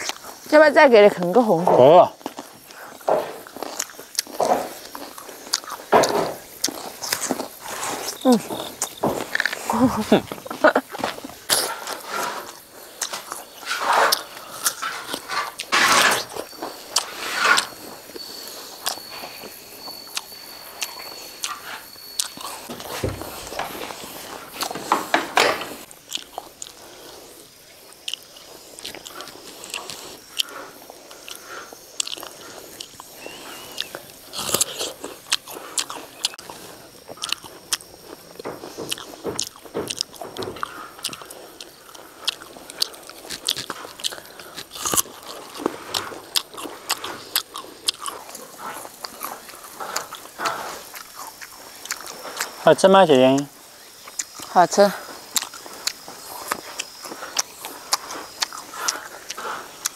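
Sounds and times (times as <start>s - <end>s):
crunchy biting and chewing: 1.9s - 59.9s.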